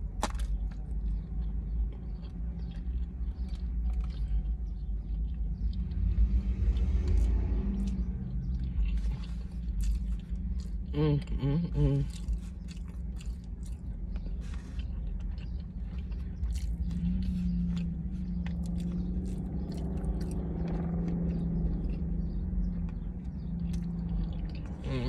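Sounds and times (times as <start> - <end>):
chewing and crunching chips: 0.0 - 25.0
low hum: 0.0 - 25.0.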